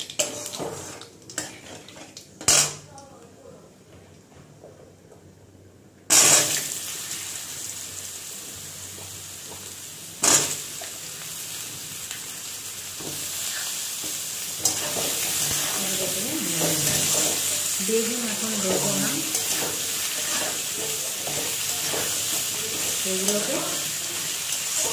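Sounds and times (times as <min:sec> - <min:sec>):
vegetables sizzling in hot oil: 0:00.0 - 0:02.0, 0:06.1 - 0:24.9.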